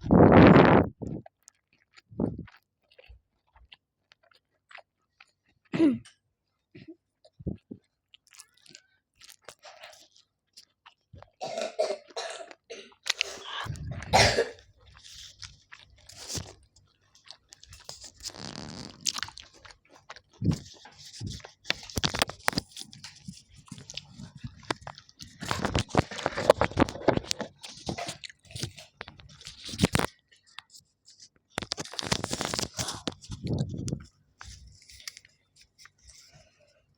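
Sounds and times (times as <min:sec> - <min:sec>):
person chewing crunchy food: 0:00.0 - 0:36.9.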